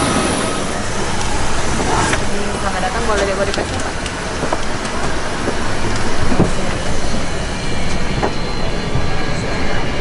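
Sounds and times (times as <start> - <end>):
airliner cabin noise: 0.0 - 10.0.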